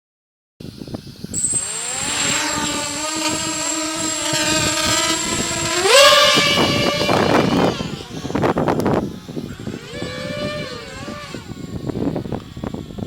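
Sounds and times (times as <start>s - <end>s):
drone propeller whine: 0.8s - 13.0s.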